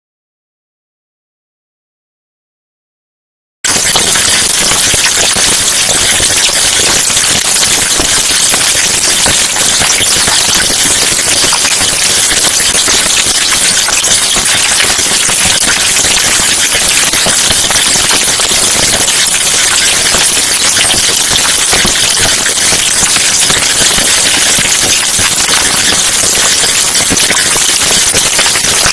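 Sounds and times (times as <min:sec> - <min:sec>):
harsh steady high noise: 0:03.6 - 0:28.9.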